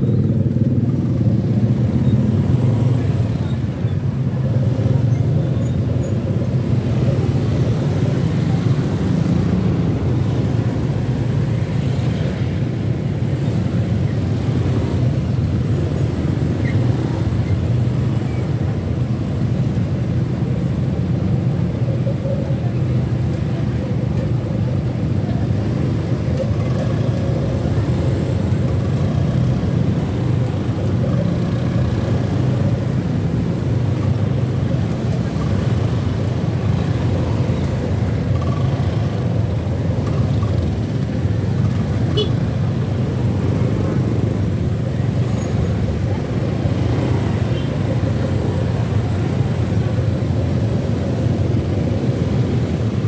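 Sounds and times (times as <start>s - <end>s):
motorcycle engines humming in traffic: 0.0s - 53.0s.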